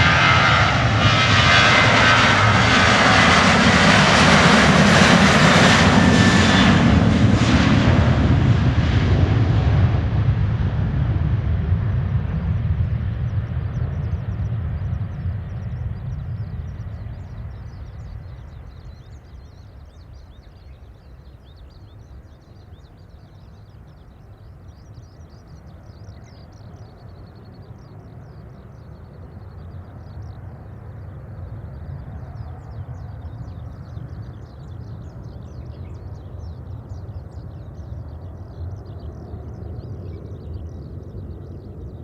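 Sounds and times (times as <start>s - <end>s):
distant jet engine rumble: 0.0s - 42.0s.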